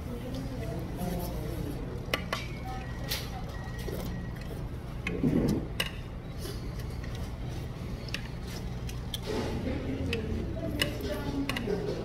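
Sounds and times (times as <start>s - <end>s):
steady low background hum: 0.0s - 12.0s.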